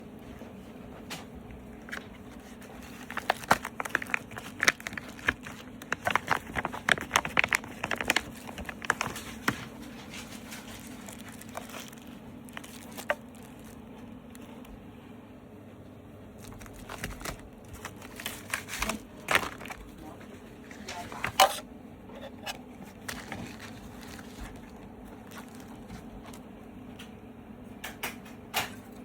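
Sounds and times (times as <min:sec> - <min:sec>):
packaging crinkling and clicking: 0:01.1 - 0:14.8, 0:16.4 - 0:21.6, 0:22.5 - 0:27.2.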